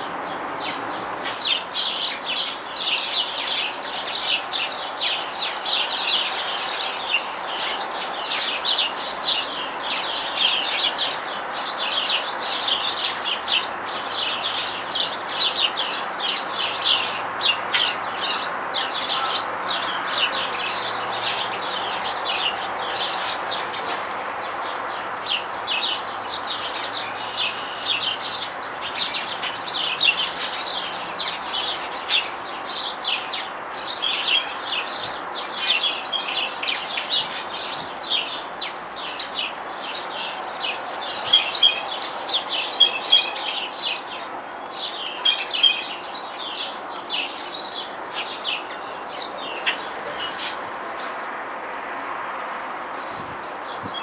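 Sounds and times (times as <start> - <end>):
small birds chirping: 0.0 - 51.1.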